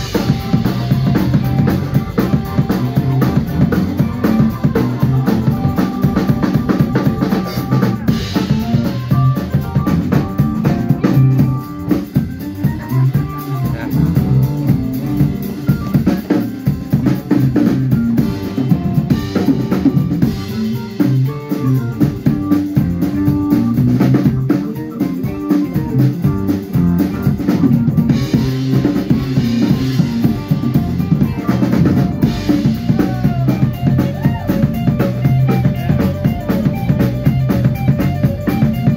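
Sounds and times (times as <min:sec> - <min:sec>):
band music: 0:00.0 - 0:38.9
bass drum and snare strokes: 0:00.0 - 0:38.9.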